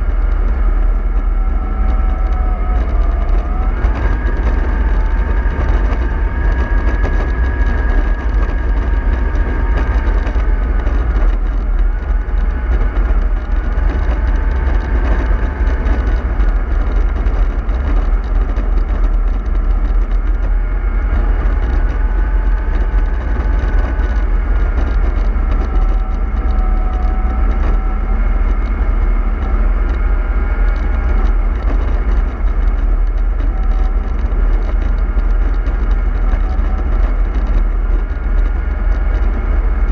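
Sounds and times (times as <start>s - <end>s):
bus engine rumble: 0.0s - 39.9s
faint engine whine: 0.0s - 39.9s.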